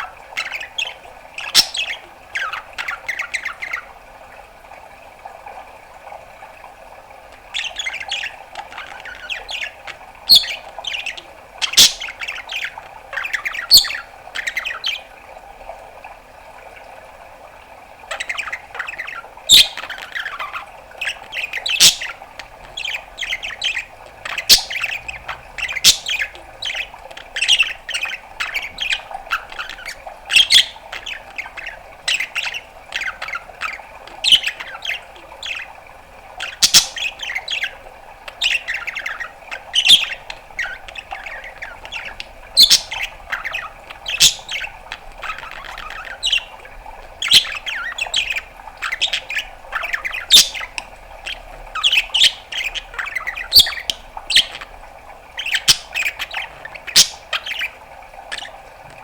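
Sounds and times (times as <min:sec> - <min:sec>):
budgerigar chattering: 0:00.0 - 0:03.9, 0:07.6 - 0:15.0, 0:18.1 - 0:35.7, 0:36.4 - 0:46.6, 0:47.2 - 0:54.7, 0:55.4 - 0:58.6.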